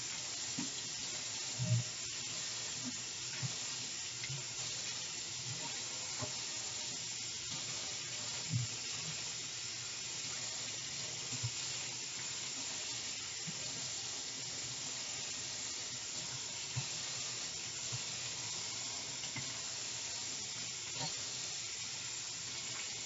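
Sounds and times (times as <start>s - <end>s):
sink tap running: 0.0s - 23.0s.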